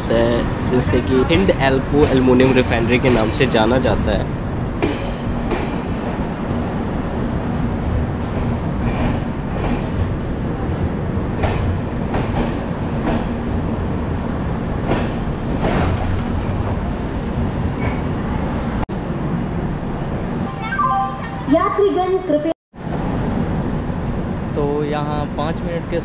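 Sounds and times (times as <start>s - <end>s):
train rumbling: 0.0s - 20.5s, 21.6s - 26.0s.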